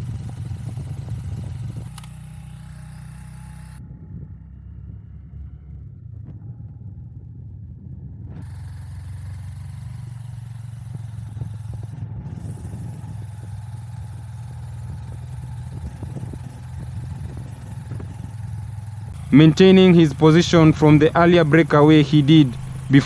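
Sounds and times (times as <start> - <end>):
vehicle engine running: 0.0 - 7.6, 8.4 - 23.0
road and wind noise: 0.0 - 23.0.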